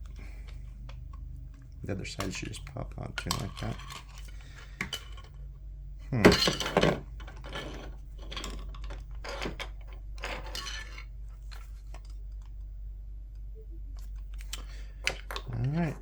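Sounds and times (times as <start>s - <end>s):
plastic parts clattering and snapping: 0.0s - 5.5s, 6.1s - 12.7s, 14.0s - 16.0s
rattling and handling noises: 0.0s - 13.0s, 13.9s - 16.0s.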